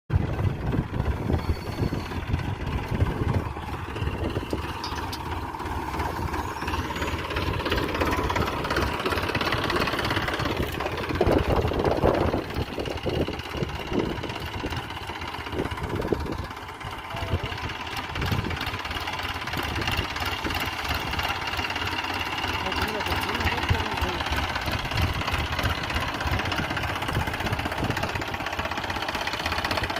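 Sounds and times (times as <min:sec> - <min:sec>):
tractor engine running: 0:00.1 - 0:29.9.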